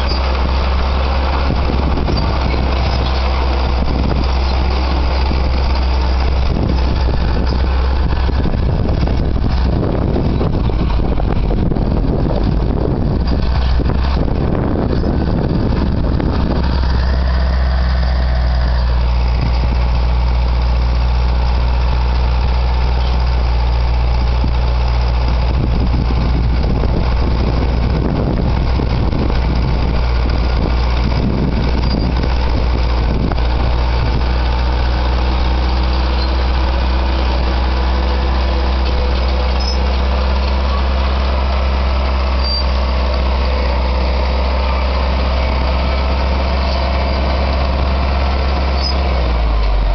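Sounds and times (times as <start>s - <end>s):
bulldozer diesel engine droning: 0.0s - 49.9s.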